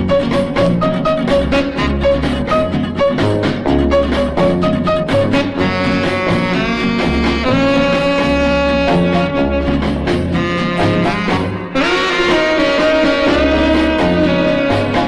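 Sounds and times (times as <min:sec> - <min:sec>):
instrumental swing music: 0:00.0 - 0:15.0.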